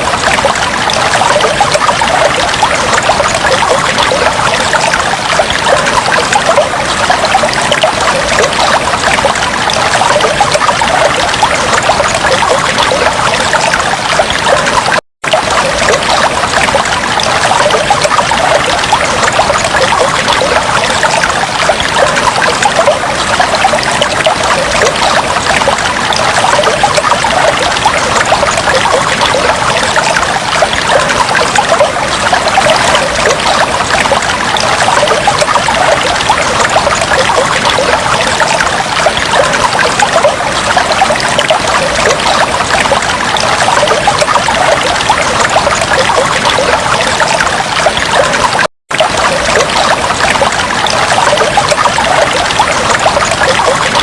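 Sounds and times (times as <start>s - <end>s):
aquarium water trickling and bubbling: 0.0s - 54.0s.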